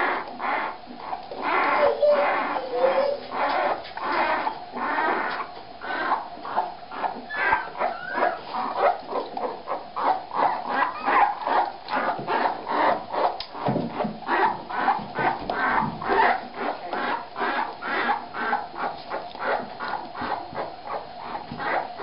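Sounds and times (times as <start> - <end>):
puppies squealing and whimpering: 0.0 - 22.0.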